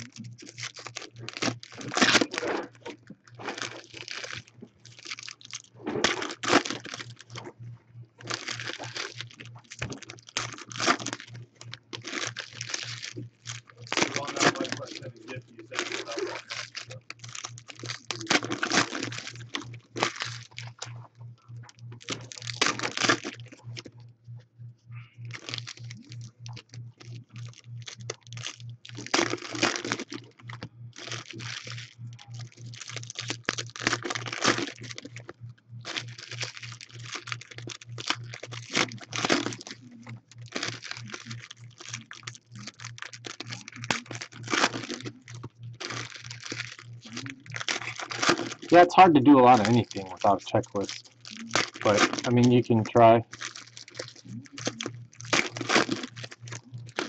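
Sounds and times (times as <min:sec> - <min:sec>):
foil wrappers tearing and crinkling: 0:00.0 - 0:07.5, 0:08.2 - 0:21.0, 0:21.7 - 0:23.9, 0:25.3 - 0:57.0
steady low hum: 0:00.0 - 0:57.0.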